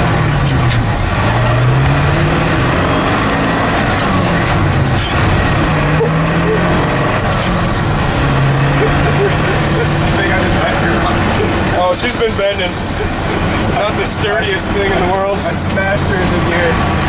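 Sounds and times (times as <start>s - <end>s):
diesel truck engine under throttle: 0.0s - 17.0s.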